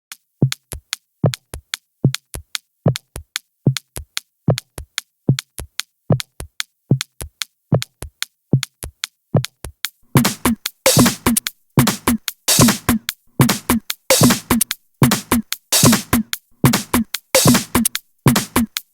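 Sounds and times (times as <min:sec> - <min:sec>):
drum-machine beat: 0:00.4 - 0:18.9.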